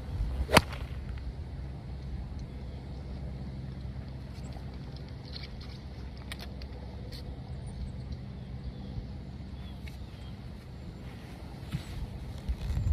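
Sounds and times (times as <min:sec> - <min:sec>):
low engine rumble: 0:00.0 - 0:12.9.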